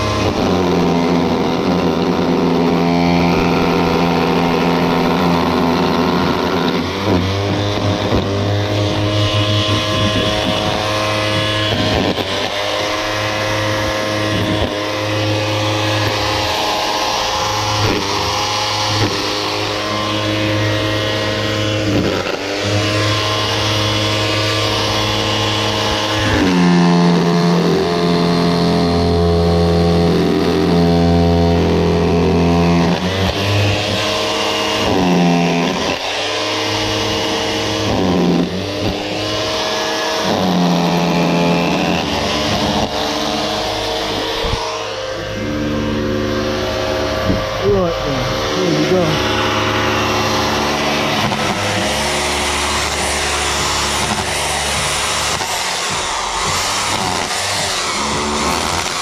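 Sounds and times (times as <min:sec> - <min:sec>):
rotary hammer breaking concrete: 0:00.0 - 0:45.6, 0:49.0 - 0:59.0.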